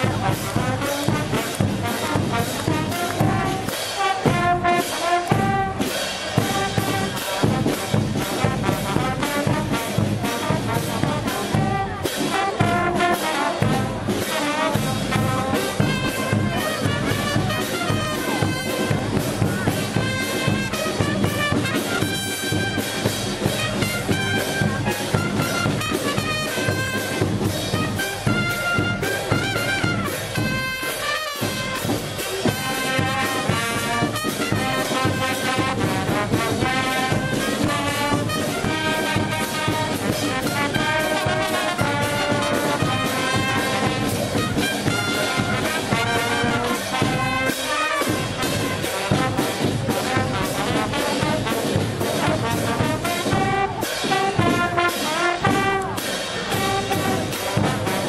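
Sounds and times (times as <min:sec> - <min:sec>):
brass band playing dance tune: 0:00.0 - 0:58.0
drum and cymbal beat: 0:00.0 - 0:58.0.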